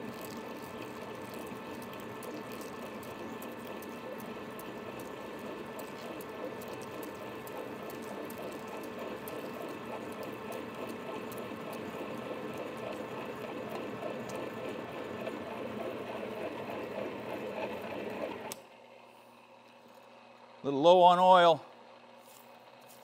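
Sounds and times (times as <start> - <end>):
machine whine: 0.0 - 18.6.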